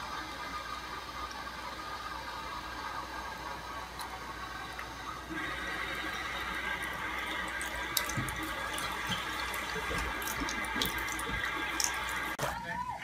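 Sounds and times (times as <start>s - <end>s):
faucet running into sink: 0.0s - 12.4s.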